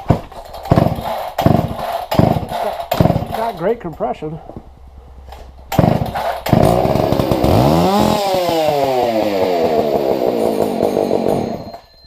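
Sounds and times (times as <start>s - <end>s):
chainsaw engine starting: 0.0s - 3.6s, 5.2s - 11.8s.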